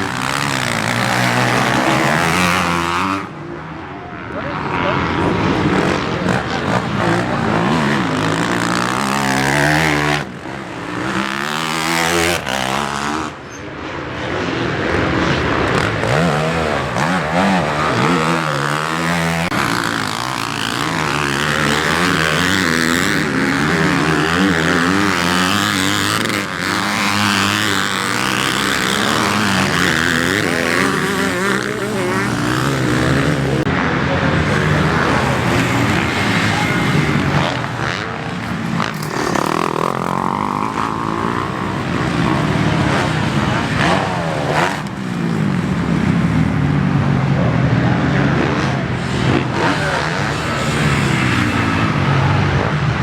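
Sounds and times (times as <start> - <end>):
motocross bike engine revving: 0.0 - 13.6, 14.2 - 53.0.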